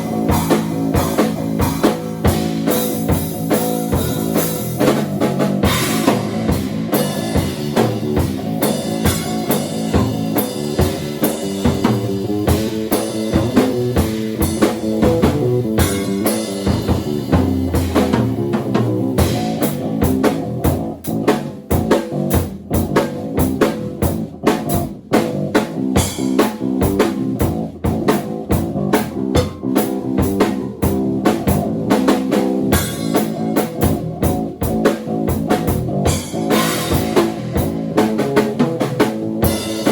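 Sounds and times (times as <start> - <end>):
low bass guitar line: 0.0 - 39.9
rapid drumming: 0.0 - 39.9.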